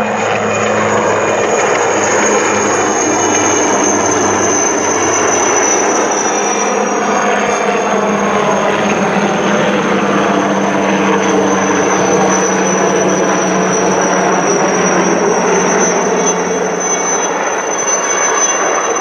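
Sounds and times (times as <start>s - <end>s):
helicopter engines and rotors: 0.0s - 19.0s
thin high whine: 0.0s - 19.0s.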